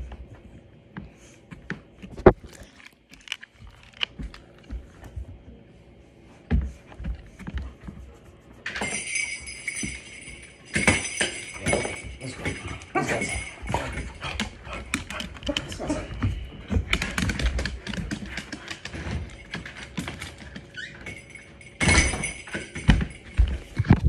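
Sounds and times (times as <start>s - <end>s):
dog paws clicking on floor: 0.0s - 24.0s.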